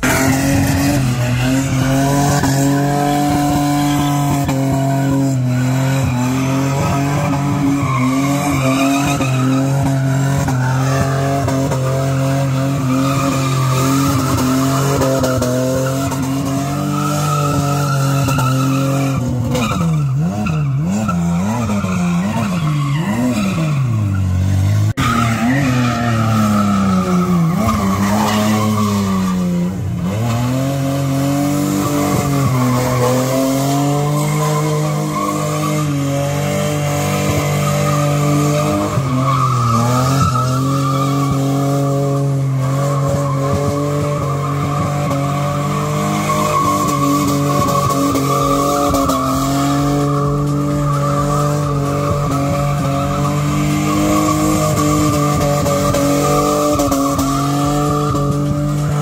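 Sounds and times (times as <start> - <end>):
car engine revving high: 0.0 - 59.0
tyres squealing on asphalt: 0.0 - 59.0.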